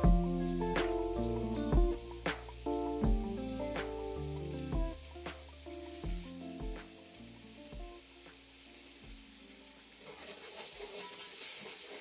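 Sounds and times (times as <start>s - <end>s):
faint background music: 0.0s - 12.0s
food sizzling in a pot: 0.0s - 12.0s.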